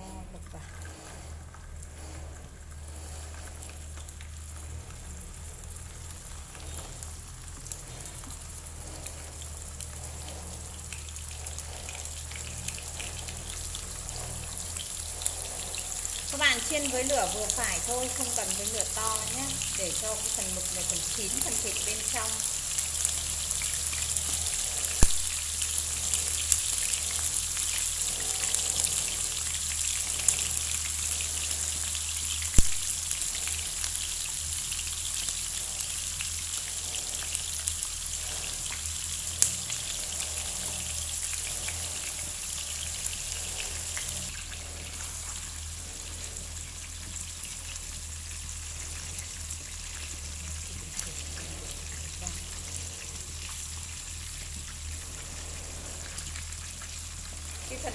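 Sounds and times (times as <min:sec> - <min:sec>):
food sizzling in oil: 0:00.0 - 0:57.9.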